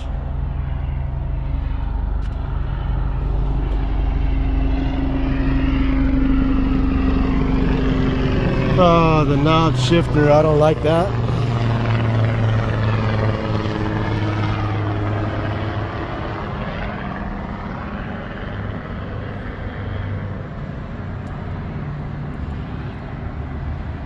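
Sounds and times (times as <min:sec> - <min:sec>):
aircraft engine drone: 0:00.0 - 0:24.0.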